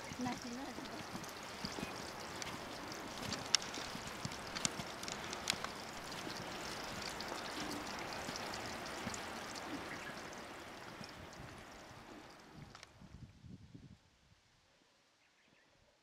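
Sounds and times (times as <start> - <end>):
meltwater rushing under snow: 0.0 - 12.9.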